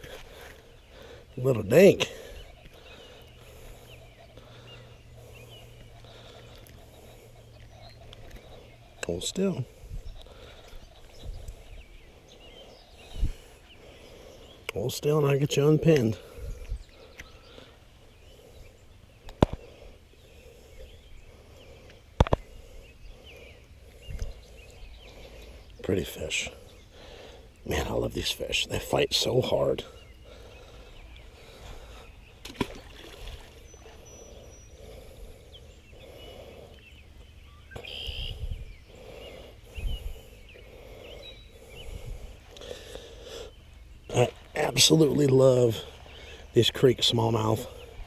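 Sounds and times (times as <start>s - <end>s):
background hum: 0.0s - 48.0s
birds chirping: 0.0s - 48.0s.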